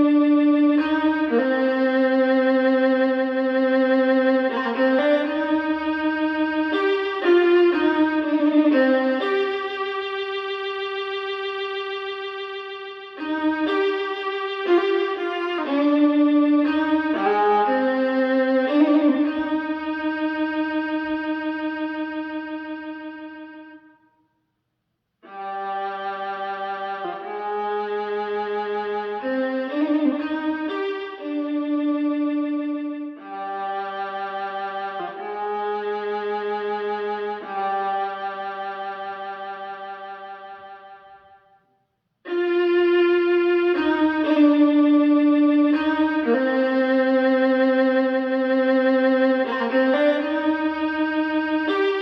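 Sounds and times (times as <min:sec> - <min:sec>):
bowed string instrument music: 0:00.0 - 0:24.0, 0:25.2 - 0:41.6, 0:42.2 - 0:52.0
violin melody over loudspeakers: 0:00.0 - 0:24.0, 0:25.2 - 0:41.4, 0:42.3 - 0:52.0.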